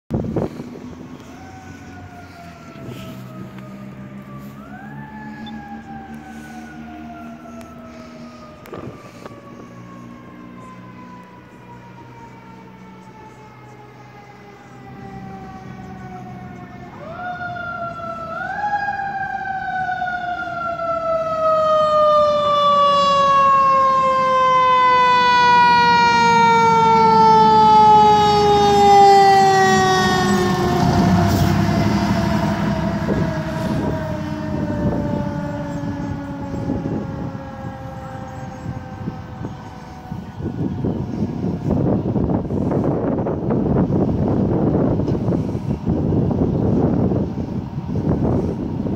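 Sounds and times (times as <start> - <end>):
fire engine siren wailing: 0.1 - 48.9
truck engine rumble: 0.1 - 48.9.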